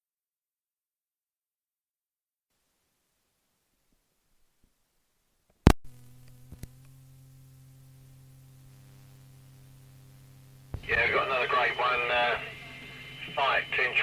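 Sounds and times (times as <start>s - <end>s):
tape hiss: 2.5s - 14.0s
low electrical hum: 2.6s - 14.0s.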